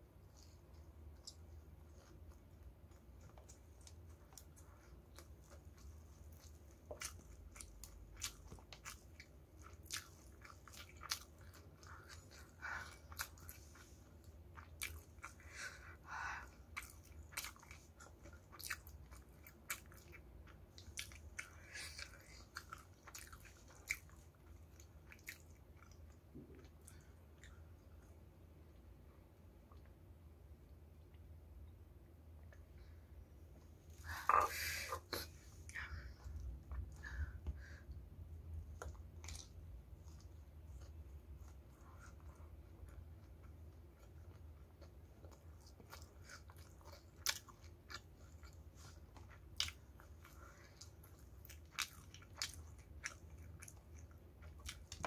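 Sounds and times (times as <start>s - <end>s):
chewing crispy fried chicken: 0.0s - 31.3s, 33.9s - 55.0s.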